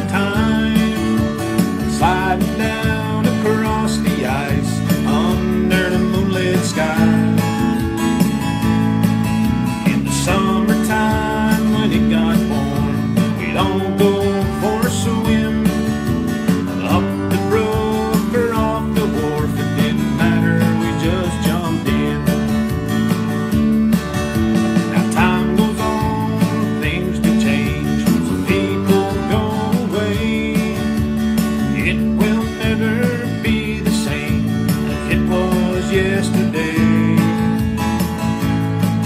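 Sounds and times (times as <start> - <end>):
acoustic guitar chords: 0.0 - 39.0.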